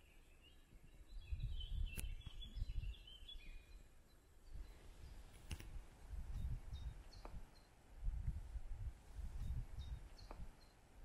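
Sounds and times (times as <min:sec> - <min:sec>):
bird chirping: 0:00.0 - 0:07.9, 0:09.2 - 0:11.0
wind gusting on microphone: 0:00.9 - 0:03.7, 0:04.4 - 0:11.0.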